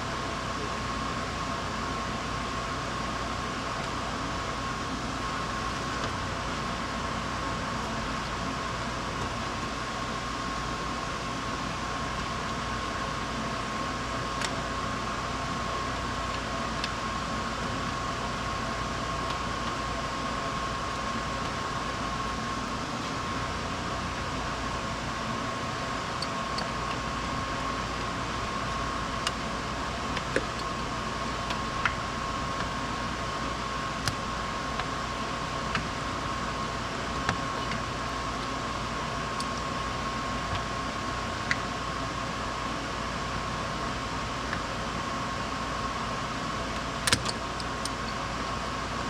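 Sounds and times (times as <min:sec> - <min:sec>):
fan-like mechanical hum: 0:00.0 - 0:49.0.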